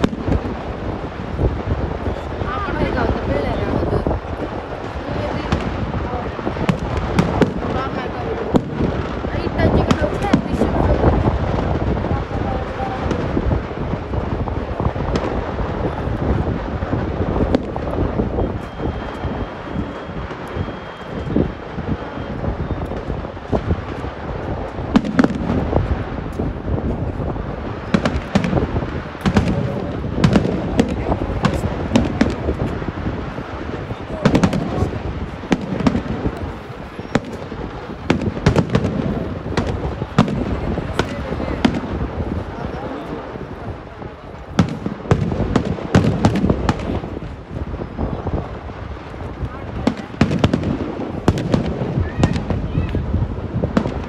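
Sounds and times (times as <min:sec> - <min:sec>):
sharp firework cracks: 0:00.0 - 0:19.4, 0:20.2 - 0:54.0
distant fireworks barrage: 0:00.0 - 0:54.0
wind on microphone: 0:00.0 - 0:54.0.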